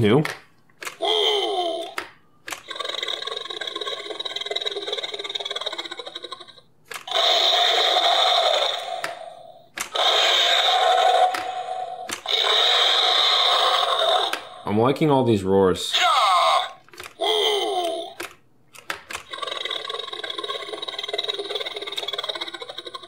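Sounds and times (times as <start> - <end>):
toy click: 0.2 - 14.5, 16.8 - 23.0
toy dinosaur roar from speaker: 1.0 - 14.7, 15.9 - 18.2, 19.2 - 23.0.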